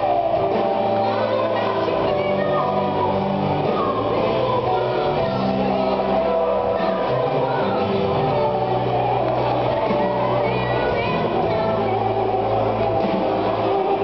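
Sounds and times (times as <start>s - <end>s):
bass notes: 0.0s - 14.0s
guitar: 0.0s - 14.0s
person singing: 0.0s - 14.0s.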